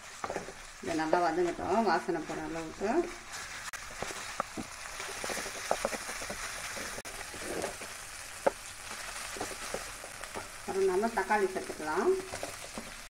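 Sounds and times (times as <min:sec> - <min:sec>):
onions sizzling in oil: 0:00.0 - 0:13.0
wooden spatula scraping a pan: 0:00.0 - 0:13.0.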